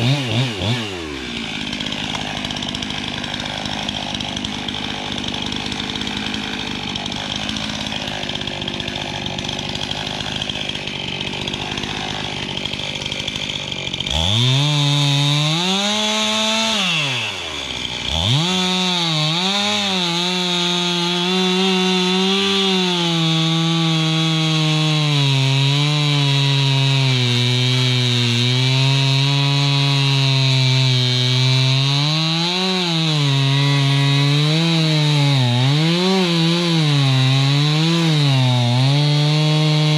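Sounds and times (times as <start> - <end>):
chainsaw running and cutting: 0.0 - 39.9.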